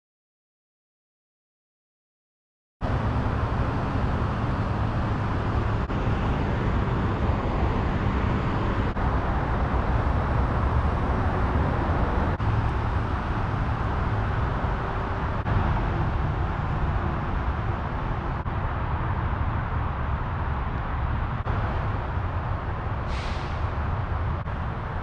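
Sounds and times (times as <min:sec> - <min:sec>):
low outdoor rumble: 0:02.8 - 0:25.0.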